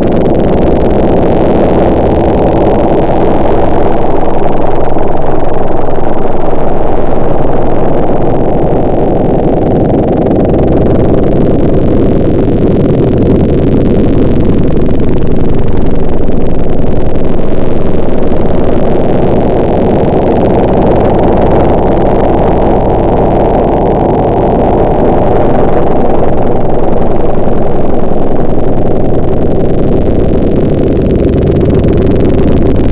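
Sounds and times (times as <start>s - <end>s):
motor engine running loudly: 0.0s - 32.9s.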